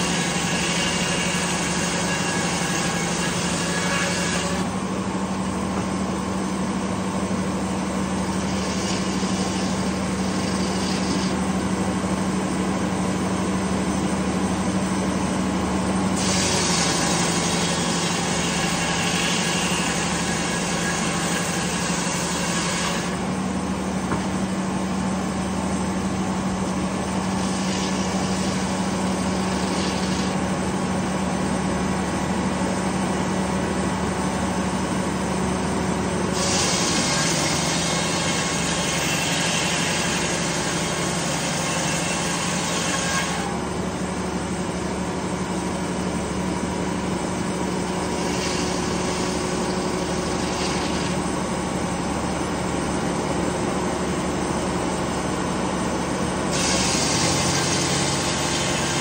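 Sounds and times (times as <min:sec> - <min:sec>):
circular saw cutting wood: 0:00.0 - 0:34.2, 0:36.0 - 0:43.8, 0:45.8 - 0:52.6, 0:55.5 - 0:59.0.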